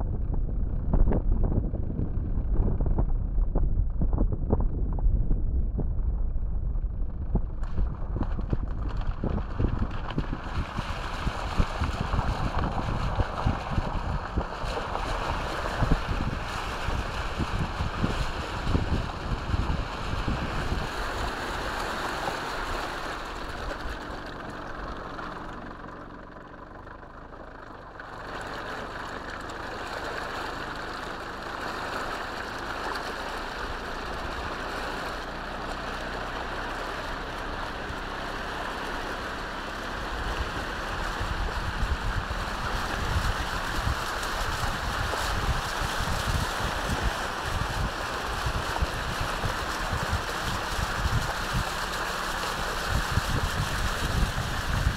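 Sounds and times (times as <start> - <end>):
vehicle engine running: 0.0 - 54.9
water sloshing around vehicle: 7.6 - 54.9.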